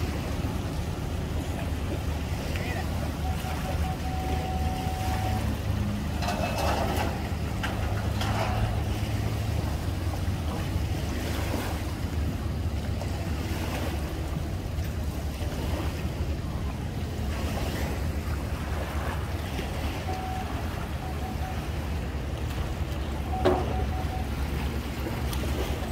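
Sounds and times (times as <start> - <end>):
low engine rumble: 0.0 - 25.9
water: 0.0 - 25.9.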